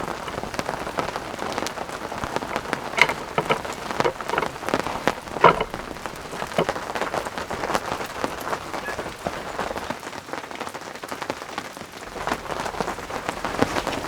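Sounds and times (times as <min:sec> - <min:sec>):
heavier raindrops striking: 0:00.0 - 0:14.0
steady rain falling: 0:00.0 - 0:14.0.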